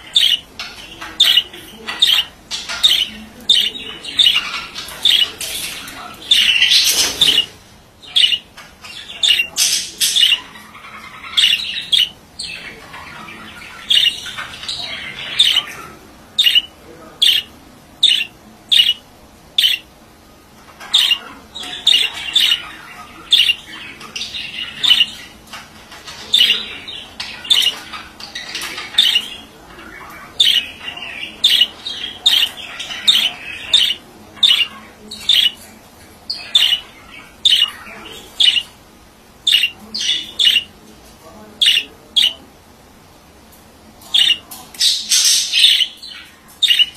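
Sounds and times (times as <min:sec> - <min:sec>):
budgerigar chirps and squawks: 0:00.0 - 0:19.0, 0:19.6 - 0:19.9, 0:20.8 - 0:25.3, 0:26.2 - 0:35.6, 0:36.3 - 0:38.7, 0:39.4 - 0:40.7, 0:41.6 - 0:42.4, 0:44.1 - 0:46.9.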